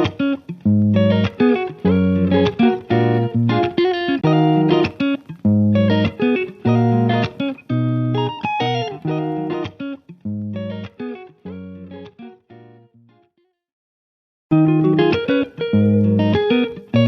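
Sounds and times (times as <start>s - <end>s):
plucked guitar music: 0.0s - 13.6s, 14.5s - 17.0s.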